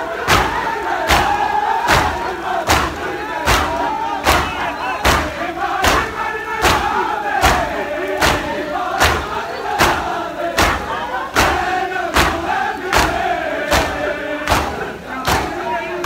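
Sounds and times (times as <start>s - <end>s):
crowd of men chanting: 0.0s - 16.0s
crowd slapping chests in unison: 0.0s - 16.0s.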